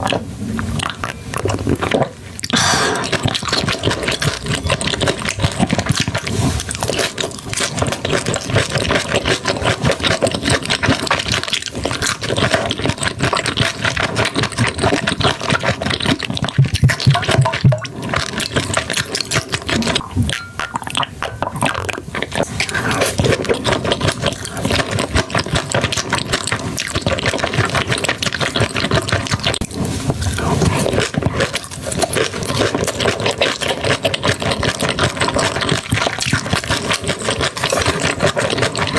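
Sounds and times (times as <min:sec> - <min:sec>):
chewing and crunching seafood: 0:00.0 - 0:38.9.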